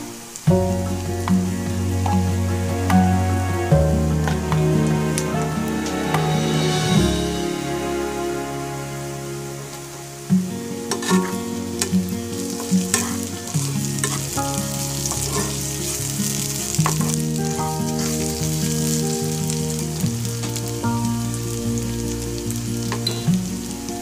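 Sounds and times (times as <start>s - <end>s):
onions sizzling in oil: 0.0s - 24.0s
soft instrumental music: 0.0s - 24.0s.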